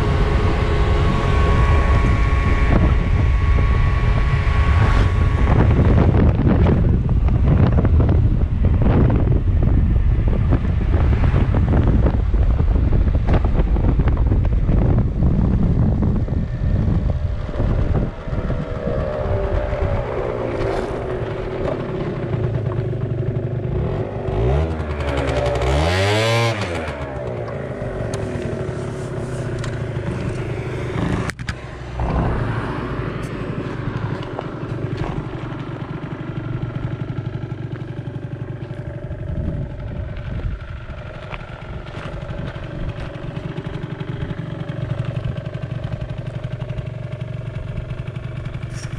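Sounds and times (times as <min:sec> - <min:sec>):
scooter engine idling: 0:00.0 - 0:48.9
wind buffeting microphone: 0:00.0 - 0:48.9.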